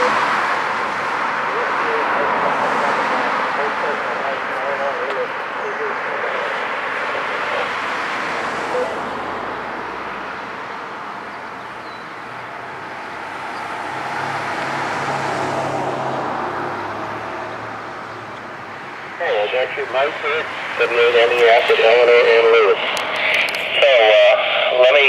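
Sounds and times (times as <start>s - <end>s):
passing vehicles rushing: 0.0s - 25.0s.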